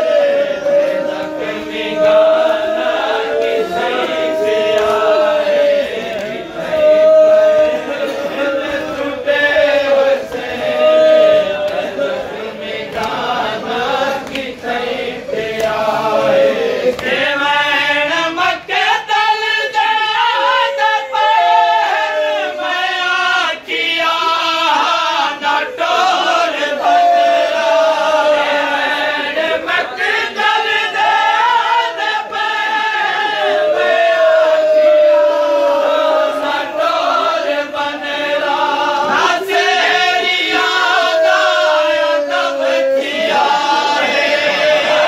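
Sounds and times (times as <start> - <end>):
men chanting in unison: 0.0 - 45.0.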